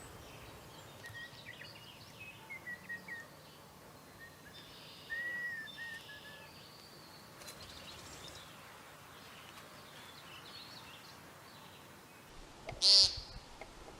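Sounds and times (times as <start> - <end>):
background hiss: 0.0 - 13.9.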